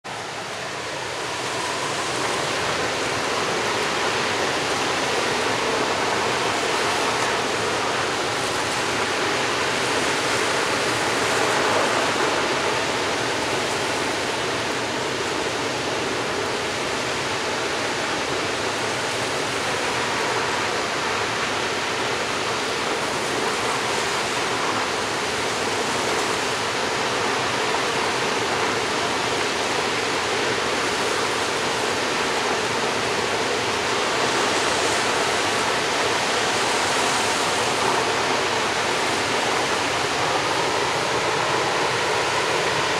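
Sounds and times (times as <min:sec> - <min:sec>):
water rushing from dam outlet: 0:00.0 - 0:42.9.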